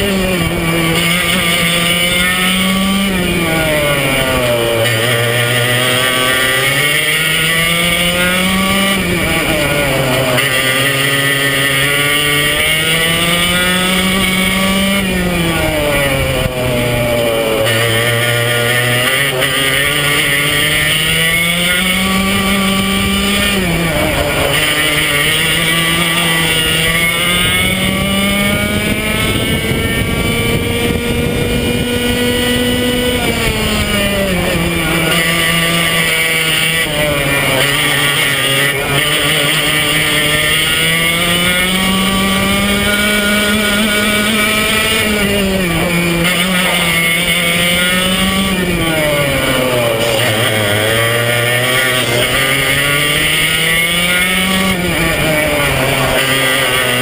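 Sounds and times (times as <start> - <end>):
kart engine at full throttle: 0.0 - 57.0.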